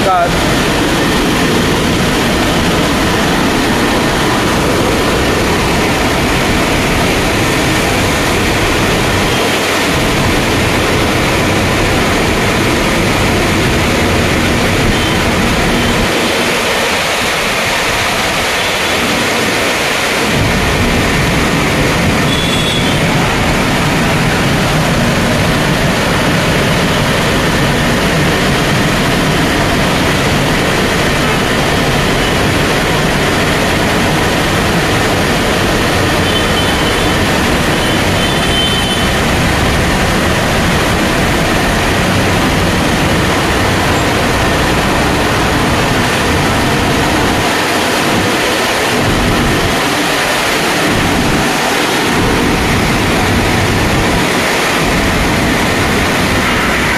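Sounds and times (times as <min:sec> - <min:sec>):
car wash machine rushing: 0:00.0 - 0:56.9.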